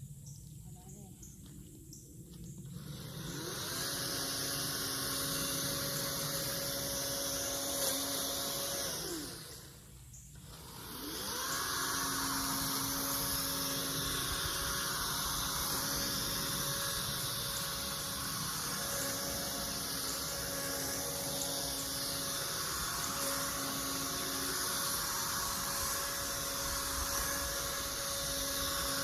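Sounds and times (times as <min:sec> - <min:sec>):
electric chainsaw motor whining: 0:02.2 - 0:29.0.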